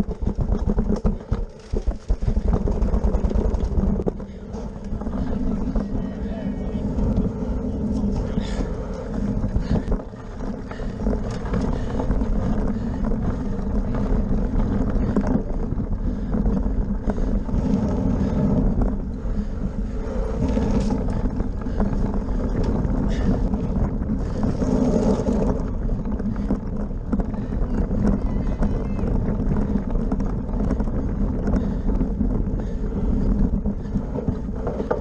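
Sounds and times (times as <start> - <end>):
bike rattling over rough ground: 0.0 - 35.0
wind buffeting microphone: 0.0 - 35.0.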